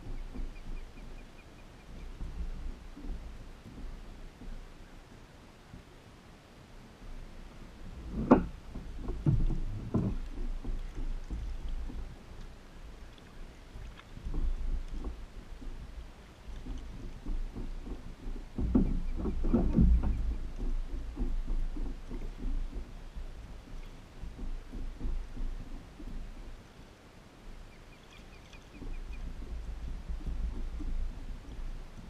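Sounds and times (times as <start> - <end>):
low rumble of handling and water: 0.0 - 32.0.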